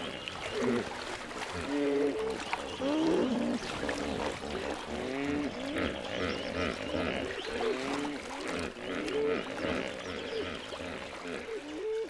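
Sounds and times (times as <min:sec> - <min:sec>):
frogs croaking: 0:00.0 - 0:11.8
frogs trilling: 0:01.7 - 0:11.6.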